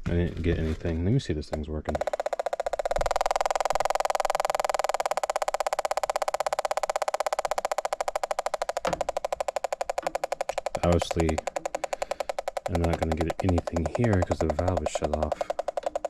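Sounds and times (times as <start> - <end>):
gas detector rapid beeping ticks: 1.9 - 16.0.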